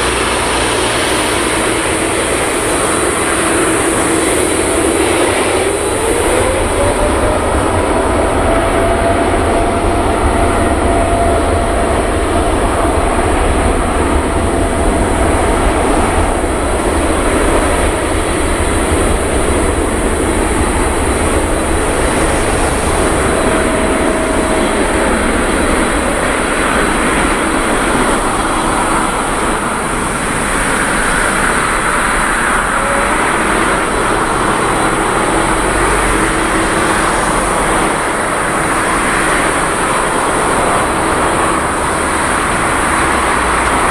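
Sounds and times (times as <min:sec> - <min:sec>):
jet engines roaring: 0:00.0 - 0:43.9
thin engine whine: 0:00.0 - 0:43.9.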